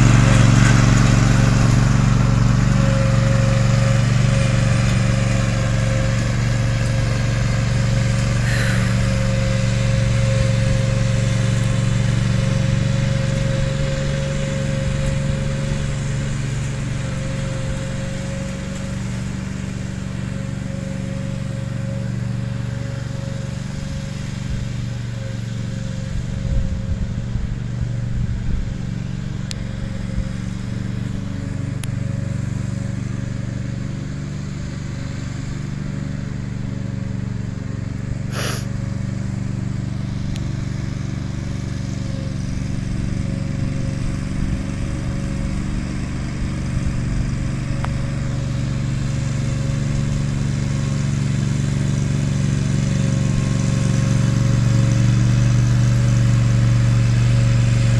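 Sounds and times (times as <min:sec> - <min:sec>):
mower engine running: 0:00.0 - 0:57.9.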